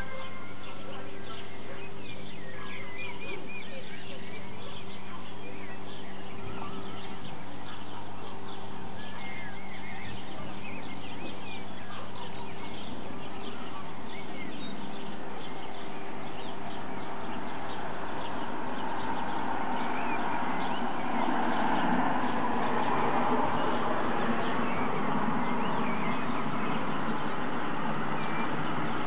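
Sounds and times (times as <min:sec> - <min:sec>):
birds chirping and calling: 0:00.0 - 0:29.0
broad noise: 0:00.0 - 0:29.0.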